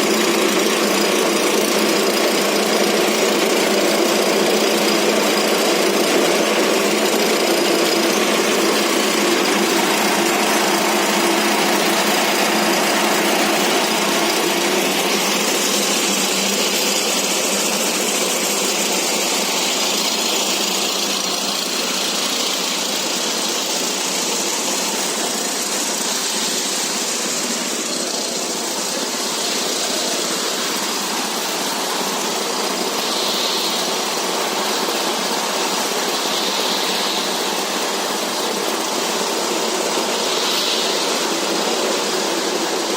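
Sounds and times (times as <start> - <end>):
pellet mill diesel engine running: 0.0 - 42.9.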